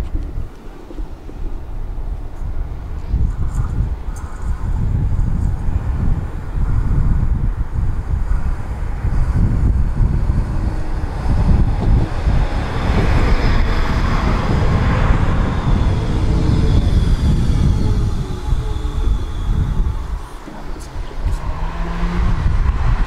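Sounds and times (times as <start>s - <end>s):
high motor whine: 0.0s - 23.0s
tram rolling on rails: 0.0s - 23.0s.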